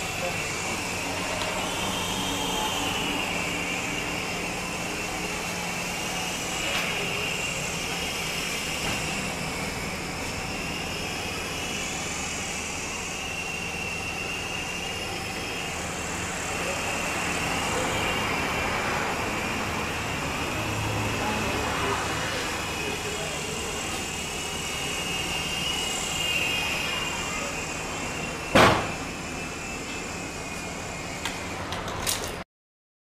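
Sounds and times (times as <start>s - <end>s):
toy helicopter motors whining: 0.0s - 32.4s.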